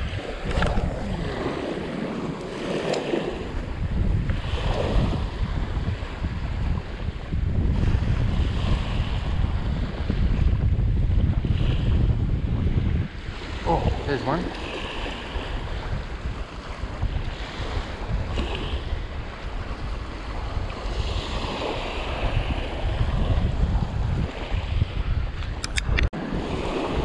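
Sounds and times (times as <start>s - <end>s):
small waves washing on sand: 0.0s - 25.6s, 26.2s - 27.0s
wind buffeting the microphone: 0.0s - 27.0s.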